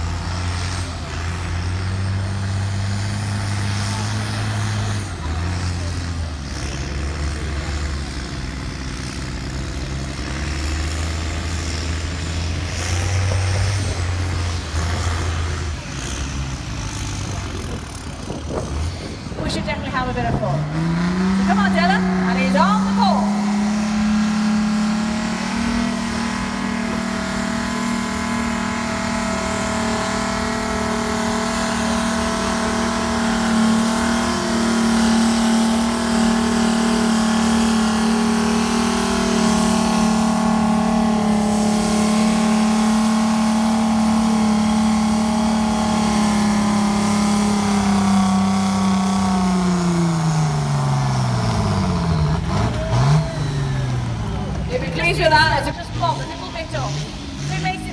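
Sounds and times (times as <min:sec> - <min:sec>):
tractor engine under heavy load: 0:00.0 - 0:57.9.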